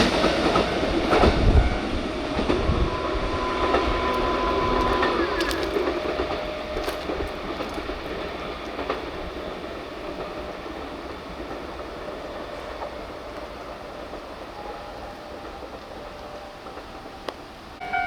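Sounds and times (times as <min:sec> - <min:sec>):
train wheel clatter: 0:00.0 - 0:18.0.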